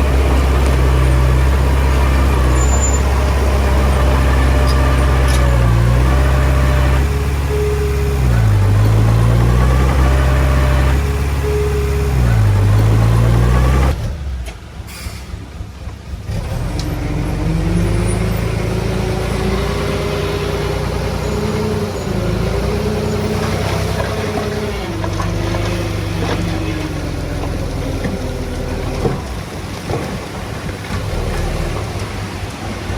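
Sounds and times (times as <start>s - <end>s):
diesel machinery engine: 0.0s - 32.9s.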